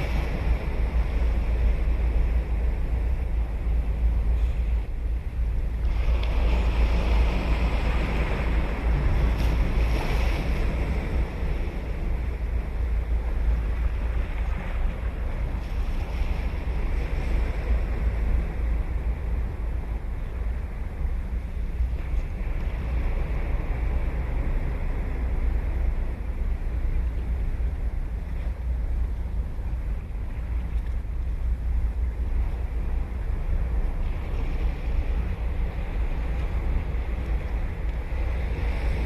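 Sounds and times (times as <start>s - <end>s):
ocean waves breaking: 0.0s - 39.0s
wind rumble on microphone: 0.0s - 39.0s.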